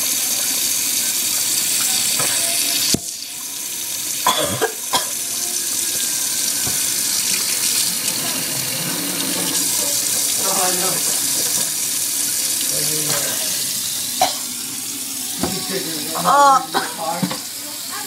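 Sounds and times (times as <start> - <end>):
water running from tap: 0.0 - 18.0.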